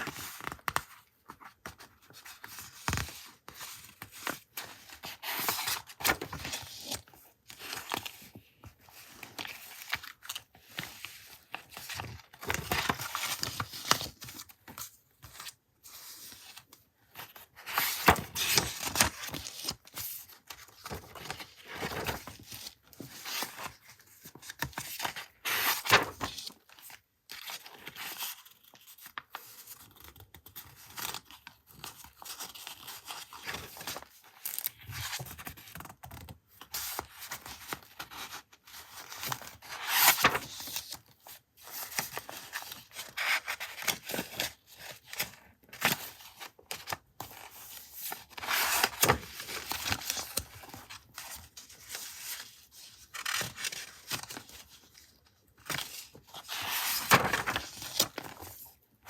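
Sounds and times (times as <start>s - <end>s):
paper rustling and scraping: 0.0s - 26.6s, 36.8s - 41.0s, 41.7s - 58.7s.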